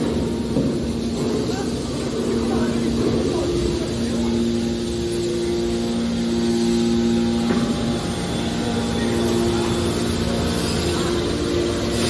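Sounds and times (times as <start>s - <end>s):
mechanical drone: 0.0s - 12.0s.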